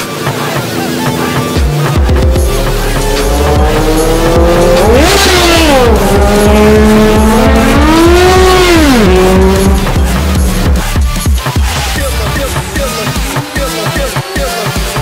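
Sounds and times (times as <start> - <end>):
superbike engine revving: 0.0 - 14.4.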